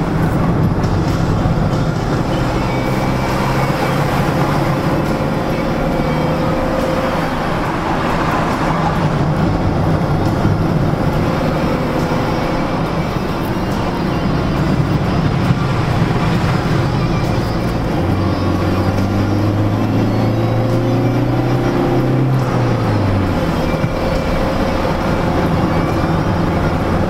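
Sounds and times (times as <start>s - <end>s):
diesel engine droning: 0.0s - 27.0s
tyre and road noise: 0.0s - 27.0s.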